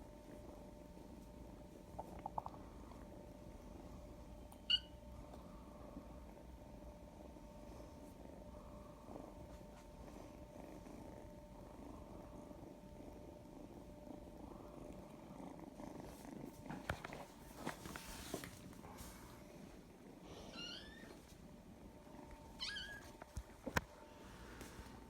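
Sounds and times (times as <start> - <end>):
cat purring: 0.0 - 4.4, 5.1 - 25.0.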